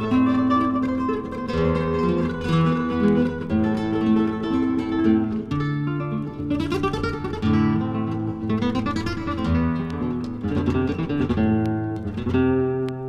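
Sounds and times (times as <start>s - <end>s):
acoustic guitar music from vinyl: 0.0s - 13.0s.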